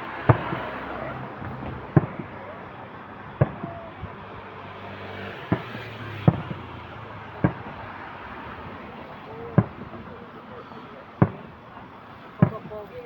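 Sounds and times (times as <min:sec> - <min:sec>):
firework shell bangs: 0:00.0 - 0:04.3, 0:05.4 - 0:13.0
background noise: 0:00.0 - 0:13.0.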